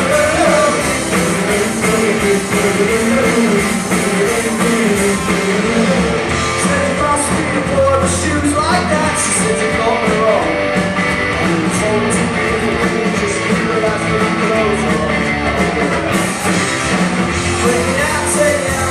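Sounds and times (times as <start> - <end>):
person singing: 0.0 - 10.6, 11.3 - 16.2, 17.4 - 18.9
live rock band playing: 0.0 - 18.9.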